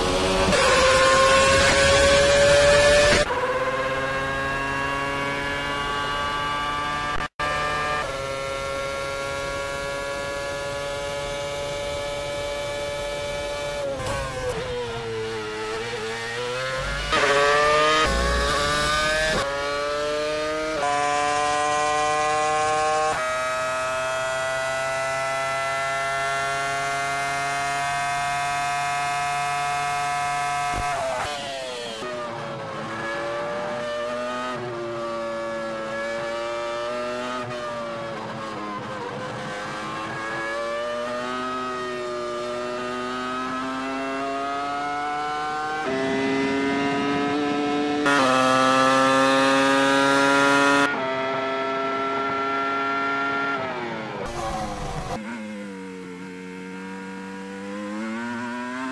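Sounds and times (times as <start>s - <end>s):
racing car engine revving: 0.0s - 55.6s, 56.2s - 58.9s.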